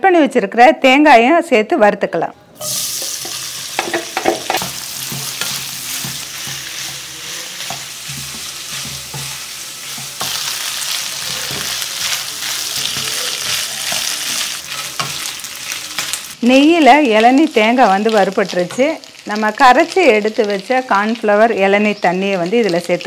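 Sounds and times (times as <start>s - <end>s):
coconut sizzling in hot ghee: 2.6s - 23.0s.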